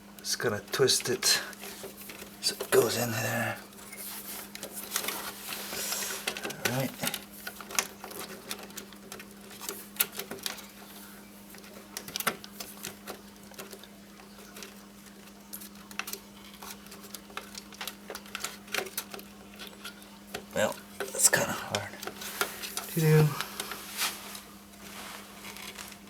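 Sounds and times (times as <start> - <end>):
hardware clicks taps and scrapes: 0.2 - 26.0.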